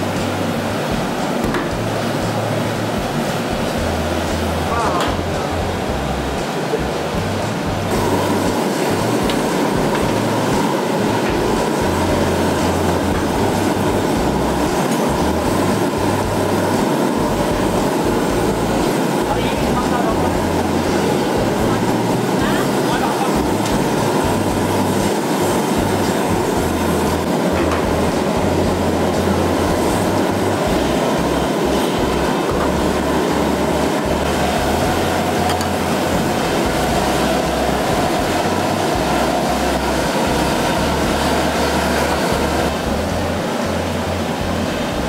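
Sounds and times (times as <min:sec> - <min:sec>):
loud steady rumbling: 0:00.0 - 0:45.0.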